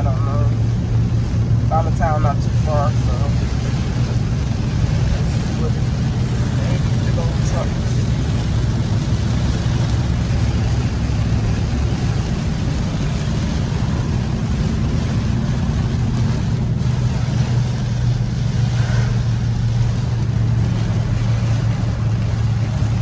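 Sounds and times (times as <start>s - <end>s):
car engine and road drone: 0.0s - 23.0s
rain hissing on glass: 0.0s - 23.0s
tyres on wet road: 0.0s - 23.0s.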